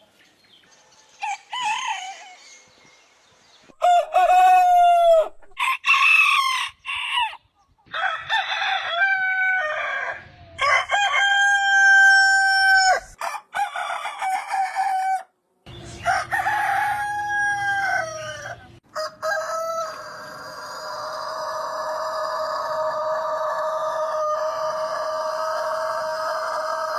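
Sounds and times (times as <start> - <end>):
roosters crowing: 1.1 - 2.6, 3.7 - 26.9.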